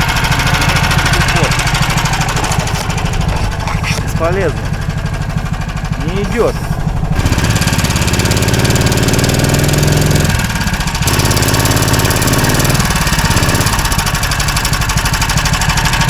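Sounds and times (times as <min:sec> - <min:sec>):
snow machine engine revving: 0:00.0 - 0:16.0.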